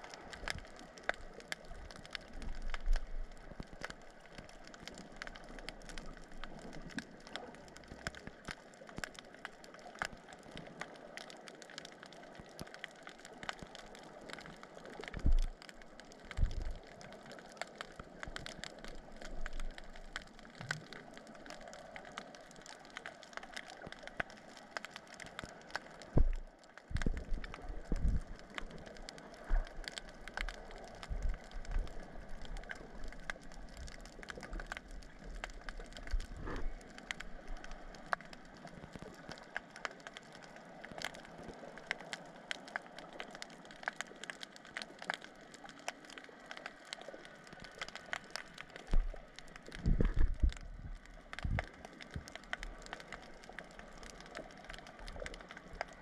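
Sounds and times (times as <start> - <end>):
underwater crackling clicks: 0.0 - 56.0.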